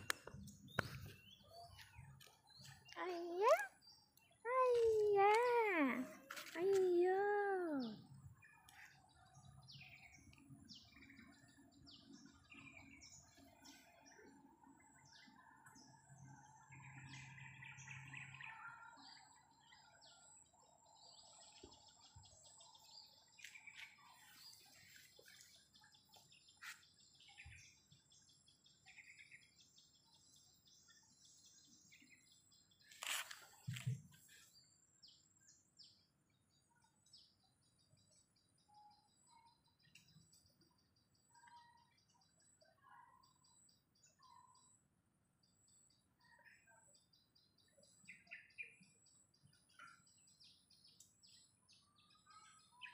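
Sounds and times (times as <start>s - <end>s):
birds chirping: 0.0s - 42.6s.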